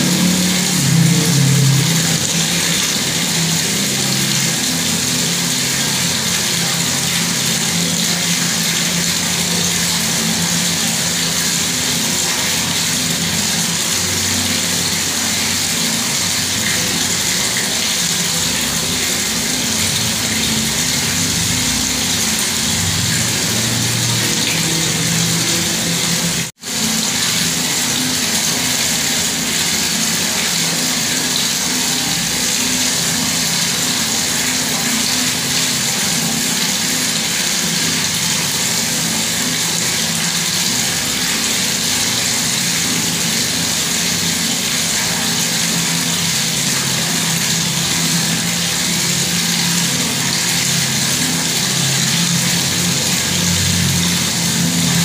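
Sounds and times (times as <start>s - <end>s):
tap water running: 0.0s - 55.0s.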